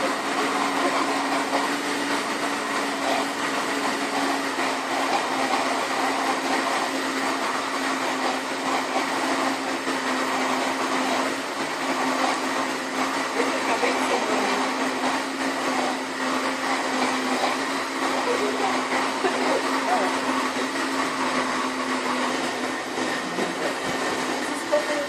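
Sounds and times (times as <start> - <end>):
blender running: 0.0 - 25.0.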